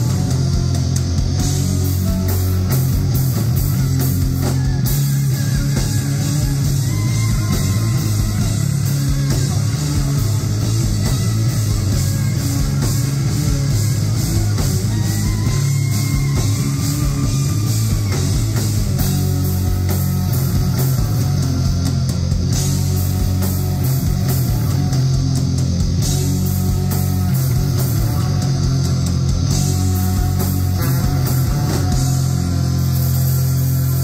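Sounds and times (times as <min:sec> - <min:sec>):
saxophone: 0:00.0 - 0:25.4, 0:26.0 - 0:34.0
drums: 0:00.0 - 0:34.0
electric bass: 0:00.0 - 0:34.0
electric guitar: 0:00.0 - 0:34.0.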